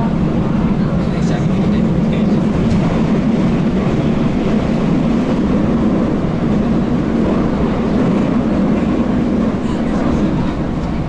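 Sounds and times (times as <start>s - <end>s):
oncoming train passing: 0.0s - 11.0s
train wheels rumbling on rail: 0.0s - 11.0s.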